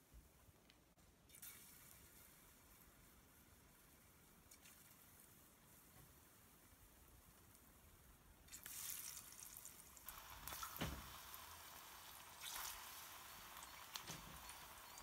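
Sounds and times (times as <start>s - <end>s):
plantain sizzling in hot oil: 1.3s - 15.0s.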